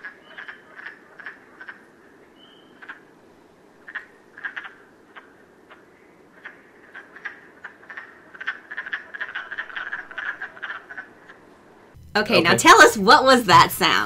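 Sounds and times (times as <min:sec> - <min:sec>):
frogs quacking calls: 0:00.0 - 0:12.0.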